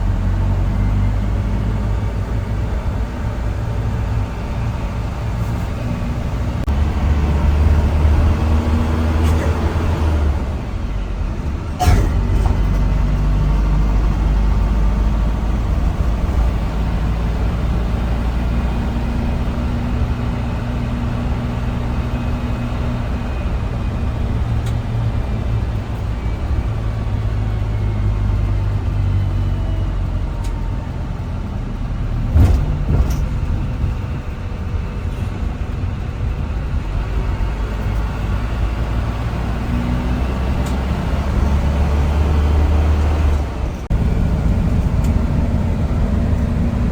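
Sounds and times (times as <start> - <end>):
airliner engines droning in cabin: 0.0 - 41.5, 43.2 - 46.9.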